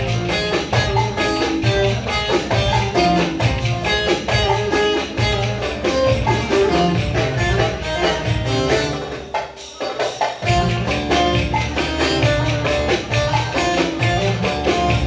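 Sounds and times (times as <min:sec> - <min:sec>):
folk dance percussion beat: 0:00.0 - 0:15.0
plucked string melody: 0:00.0 - 0:15.0.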